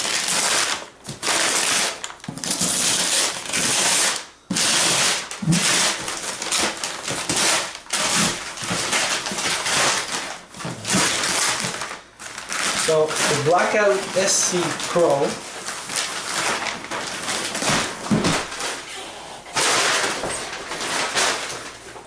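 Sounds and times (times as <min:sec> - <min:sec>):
paper tearing and crumpling: 0:00.0 - 0:18.8, 0:19.5 - 0:22.0.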